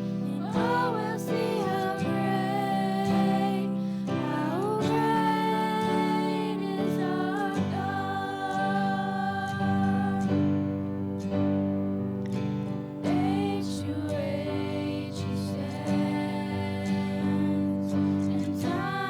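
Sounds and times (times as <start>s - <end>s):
girls singing worship song: 0.0s - 11.0s, 13.0s - 19.0s
acoustic guitar: 0.0s - 19.0s.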